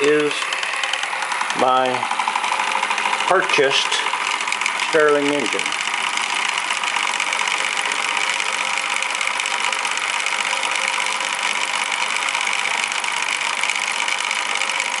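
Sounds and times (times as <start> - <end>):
hot-air engine clattering: 0.0 - 15.0.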